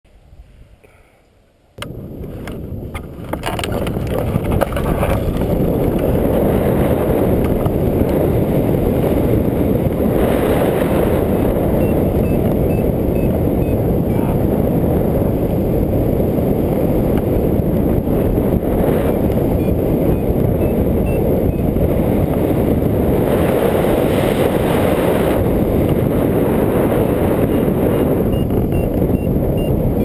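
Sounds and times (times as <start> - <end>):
wind rushing over microphone: 1.8 - 30.0.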